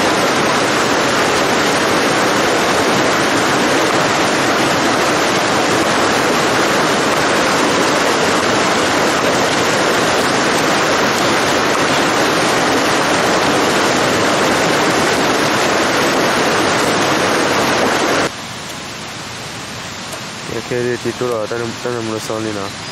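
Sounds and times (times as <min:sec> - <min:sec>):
stream rushing over rocks: 0:00.0 - 0:22.9.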